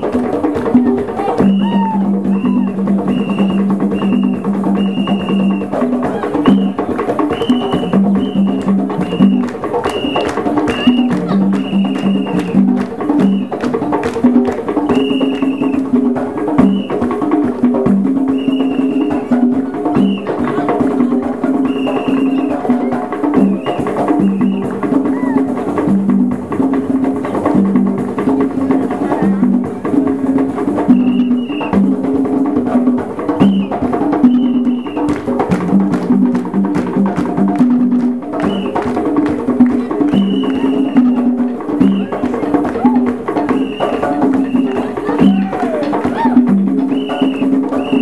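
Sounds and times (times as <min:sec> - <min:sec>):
hand drums playing fast rhythm: 0:00.0 - 0:48.0.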